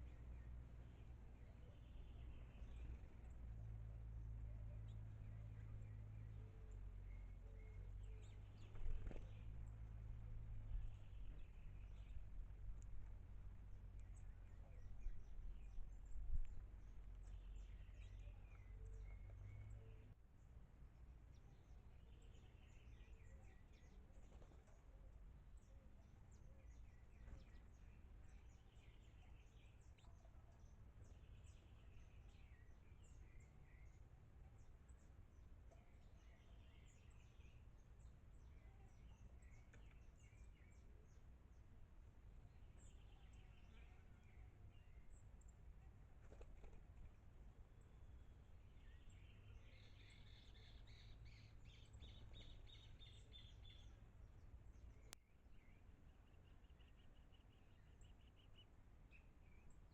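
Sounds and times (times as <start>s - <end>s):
small birds chirping: 0.0s - 20.6s, 21.2s - 59.9s
low background rumble: 0.0s - 59.9s.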